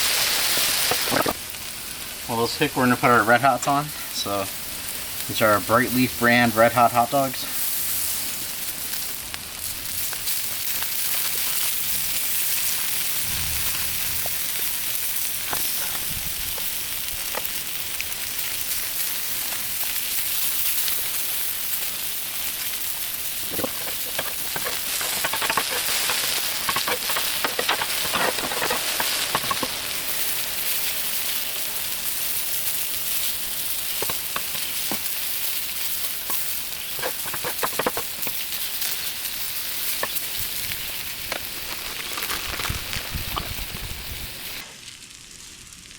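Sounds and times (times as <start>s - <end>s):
food sizzling on a griddle: 0.0s - 45.9s.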